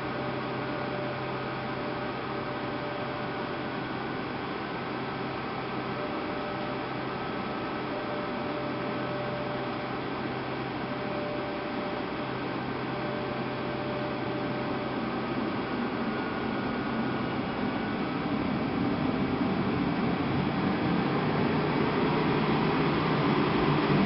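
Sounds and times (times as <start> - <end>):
aircraft cabin drone: 0.0 - 24.0.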